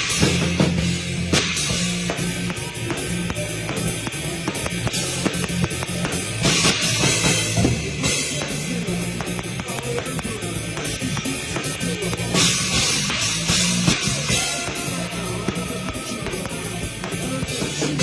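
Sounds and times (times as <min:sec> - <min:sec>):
fast drum kit hits: 0:00.0 - 0:18.0
rock band playing: 0:00.0 - 0:18.0.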